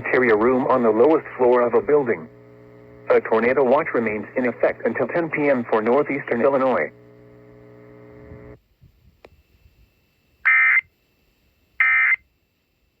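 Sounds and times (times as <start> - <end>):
faint low buzz: 0.0 - 13.0.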